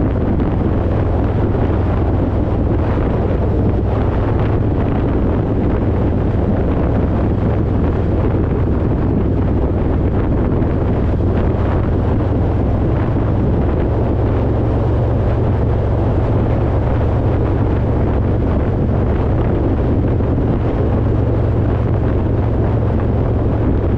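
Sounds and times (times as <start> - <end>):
motorcycle engine running: 0.0 - 23.9
wind rushing over microphone: 0.0 - 23.9.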